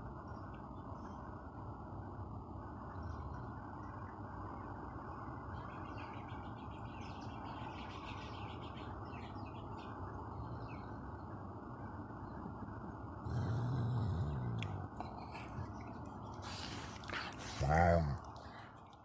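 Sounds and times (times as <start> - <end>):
small birds chirping: 2.7 - 19.0.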